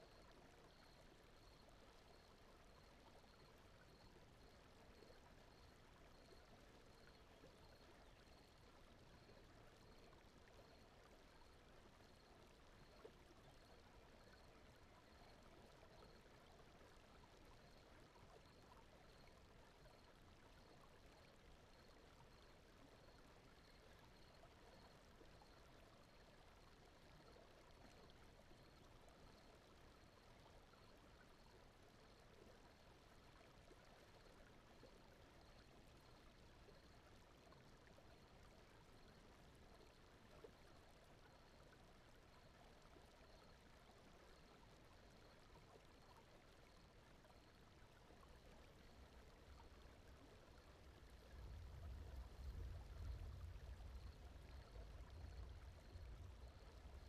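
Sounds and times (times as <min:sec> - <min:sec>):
faint brown noise: 0:00.0 - 0:57.0
flowing stream water: 0:00.0 - 0:57.0.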